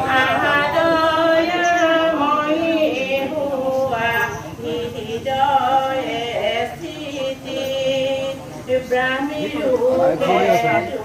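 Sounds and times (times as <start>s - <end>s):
voices chanting a hymn: 0.0s - 11.0s.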